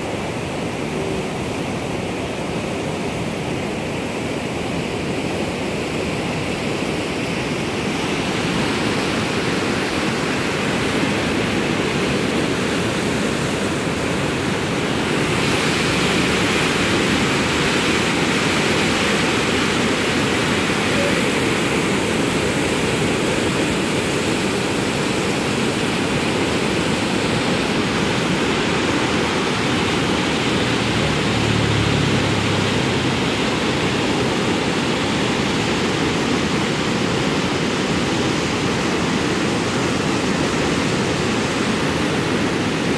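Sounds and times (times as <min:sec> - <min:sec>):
flooded river rushing: 0:00.0 - 0:42.9.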